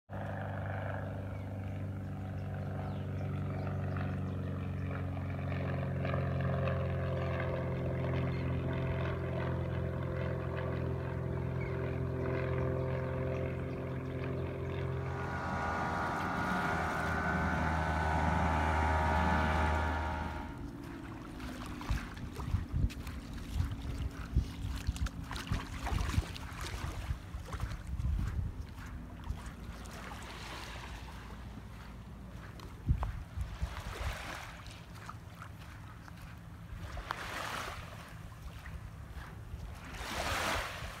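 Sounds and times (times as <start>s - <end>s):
engine running: 0.1s - 40.2s.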